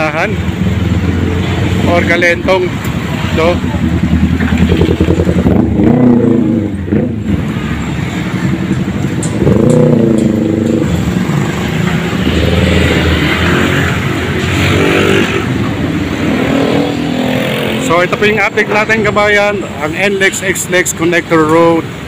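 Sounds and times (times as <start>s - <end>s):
vehicle engines passing: 0.0s - 22.0s.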